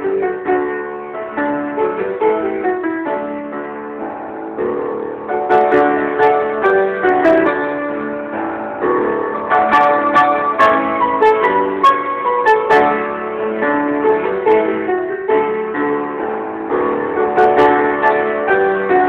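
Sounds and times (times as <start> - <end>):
upright piano playing chords: 0.0 - 19.0.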